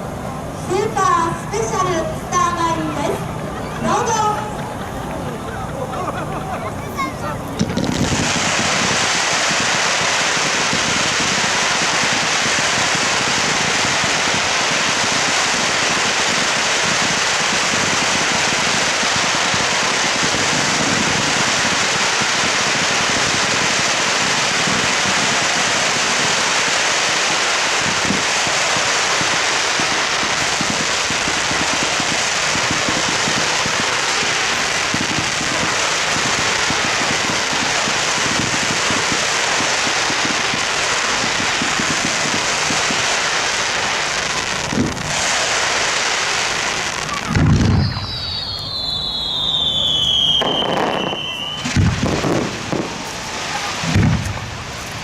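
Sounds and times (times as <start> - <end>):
fireworks crackling: 0.0 - 55.0.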